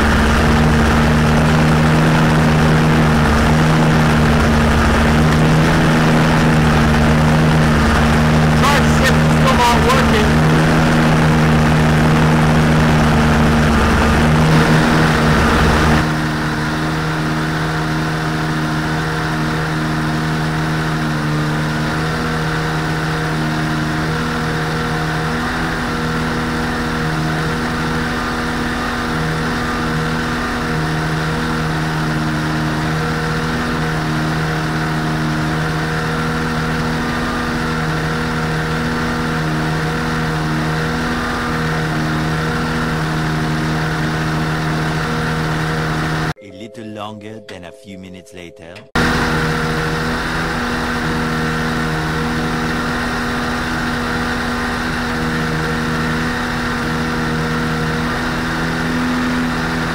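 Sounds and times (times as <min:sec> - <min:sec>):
small aircraft engine idling: 0:00.0 - 0:46.4, 0:48.9 - 0:59.9.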